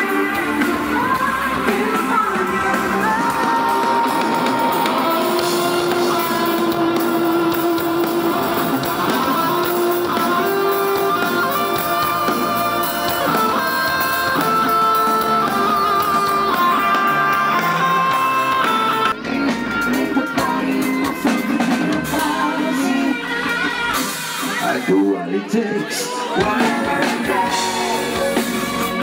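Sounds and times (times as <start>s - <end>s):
electric guitar melody: 0.0s - 25.4s, 26.1s - 29.0s
live band playing: 0.0s - 29.0s.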